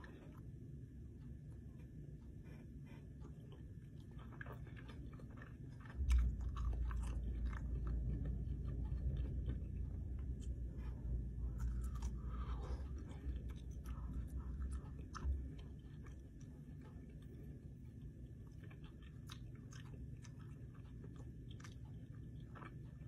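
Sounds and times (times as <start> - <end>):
low rumble: 0.0 - 21.8
chewing with wet mouth smacks: 0.0 - 23.0.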